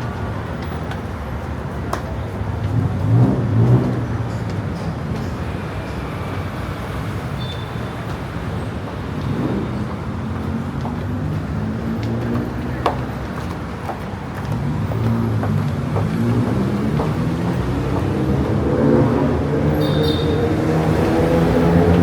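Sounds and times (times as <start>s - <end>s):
passing vehicles: 0.0s - 22.0s.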